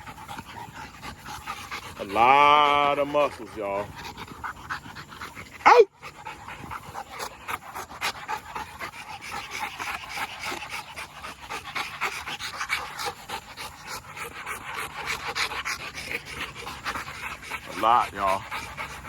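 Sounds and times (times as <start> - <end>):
dog panting fast: 0.0 - 19.0.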